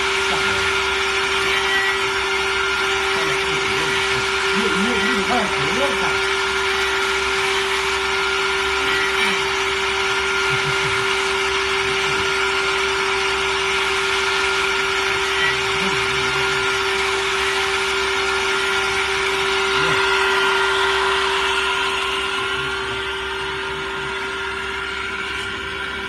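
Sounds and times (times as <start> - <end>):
spindle motor whining: 0.0 - 26.0.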